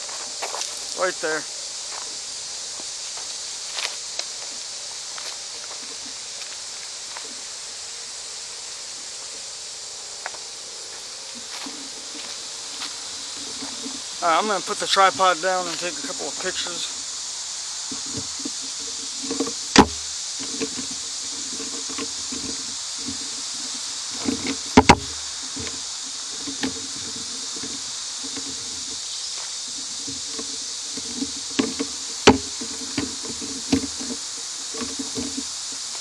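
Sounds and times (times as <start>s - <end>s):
steady high hiss: 0.0s - 36.0s.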